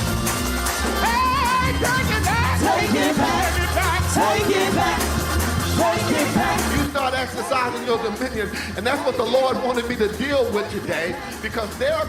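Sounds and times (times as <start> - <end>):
band with heavy bass line: 0.0 - 12.0.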